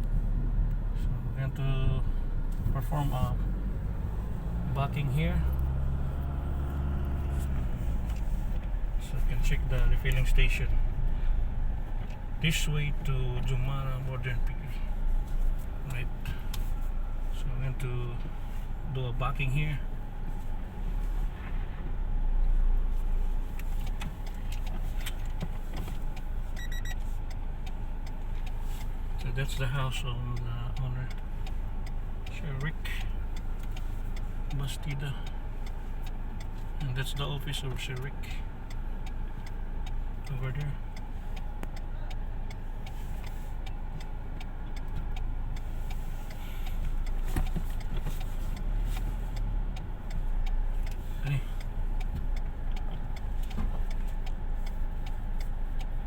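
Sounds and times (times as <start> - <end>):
regular ticking: 0.0 - 20.8, 23.4 - 56.0
car engine rumbling: 0.0 - 56.0.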